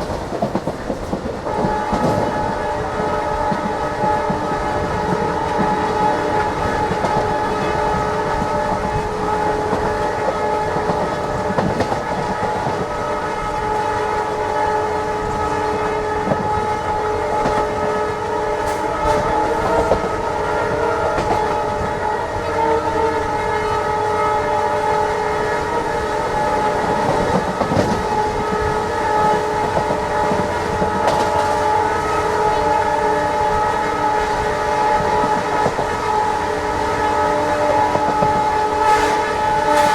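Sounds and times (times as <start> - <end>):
train running on rails: 0.0 - 39.9
locomotive horn honking: 1.4 - 39.9.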